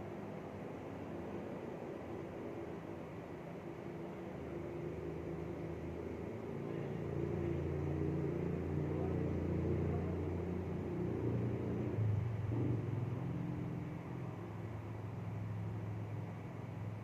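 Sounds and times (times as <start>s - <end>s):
low engine rumble: 3.2s - 17.0s.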